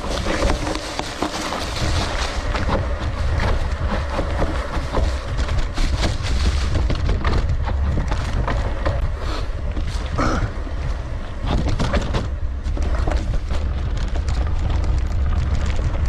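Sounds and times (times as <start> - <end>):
mountain bike rattling on dirt trail: 0.0 - 16.0
wind buffeting microphone: 0.0 - 16.0.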